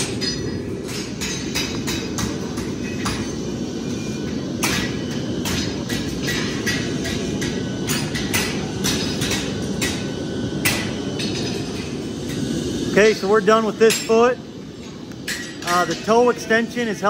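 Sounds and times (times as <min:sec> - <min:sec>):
hammer striking steel: 0:00.0 - 0:17.0.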